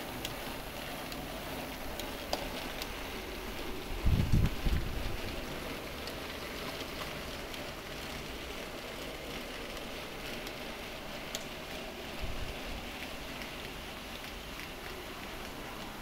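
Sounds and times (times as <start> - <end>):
model train running hiss: 0.0 - 16.0.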